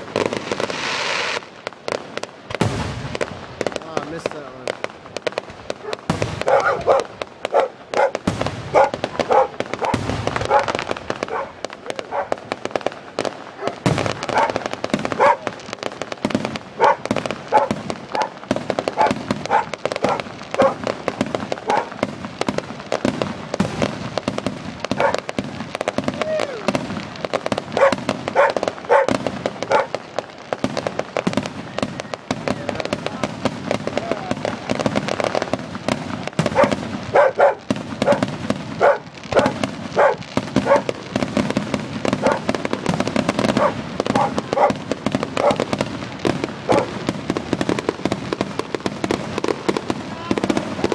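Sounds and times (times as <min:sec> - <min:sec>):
fireworks bangs and crackling pops: 0:00.0 - 0:50.9.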